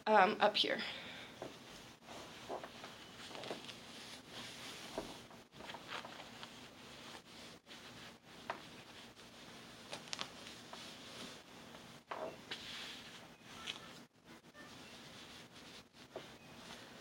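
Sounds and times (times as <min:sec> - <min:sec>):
fabric rustling: 0:01.3 - 0:17.0
soft fabric scrapes: 0:01.5 - 0:17.0.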